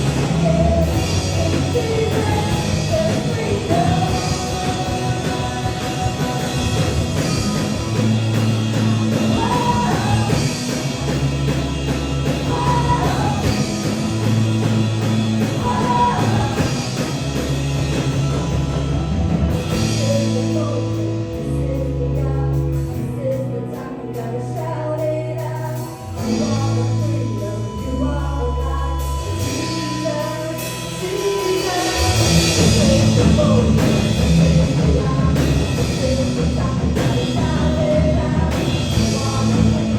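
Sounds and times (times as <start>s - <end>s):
worship song singing over band: 0.0s - 39.9s.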